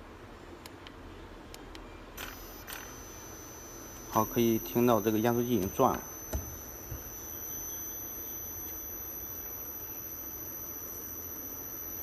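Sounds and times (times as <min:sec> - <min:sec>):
air conditioner compressor humming: 0:00.0 - 0:12.0
thin high-pitched whine: 0:02.2 - 0:12.0.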